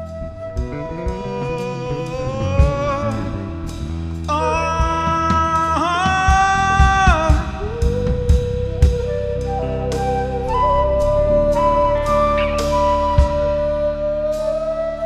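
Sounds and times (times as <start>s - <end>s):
blues band music: 0.0s - 15.0s
drum kit: 0.0s - 15.0s.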